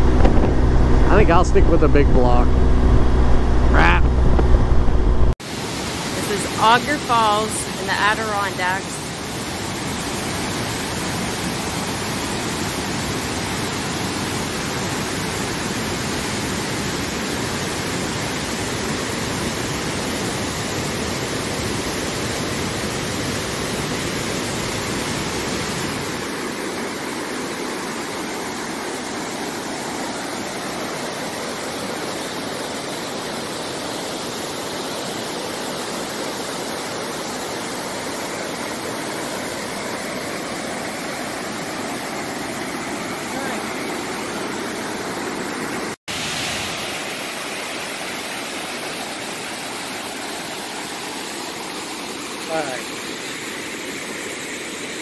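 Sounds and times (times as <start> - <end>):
waterfall rushing: 5.4 - 55.0.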